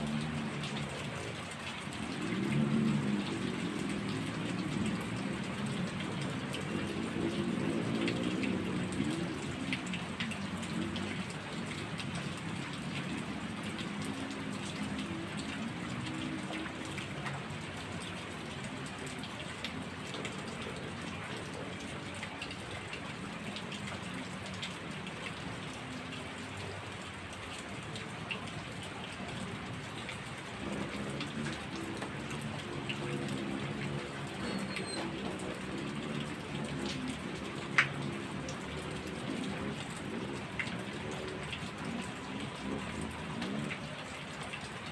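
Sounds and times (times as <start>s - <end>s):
heavy rain with splashing drops: 0.0s - 44.9s.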